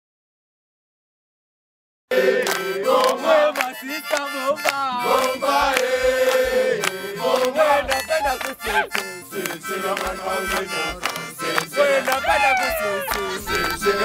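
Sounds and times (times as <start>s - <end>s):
hand claps: 2.1s - 14.0s
harmonica tune: 2.1s - 14.0s.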